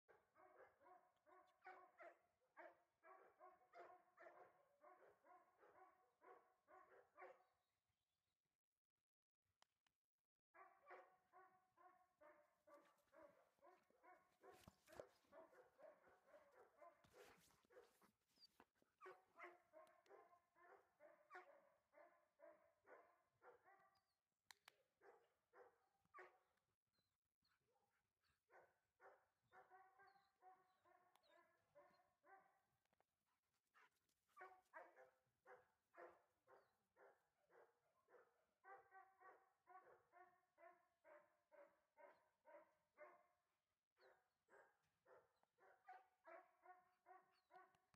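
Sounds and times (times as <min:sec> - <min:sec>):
faint dog barking: 0:00.0 - 0:07.6, 0:10.6 - 0:26.6, 0:27.4 - 0:47.9.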